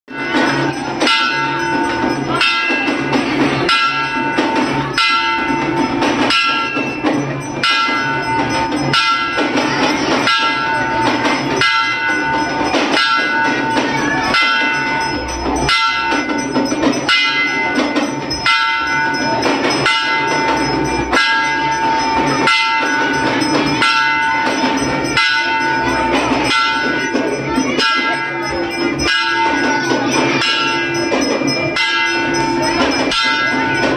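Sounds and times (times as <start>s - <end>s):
temple bell ringing: 0.1s - 33.9s.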